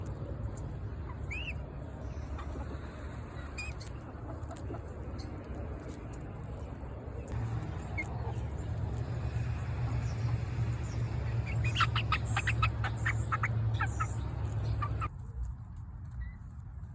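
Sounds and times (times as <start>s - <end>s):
steady low rumble: 0.0s - 15.1s
chick peeping: 0.1s - 6.6s, 7.3s - 15.1s.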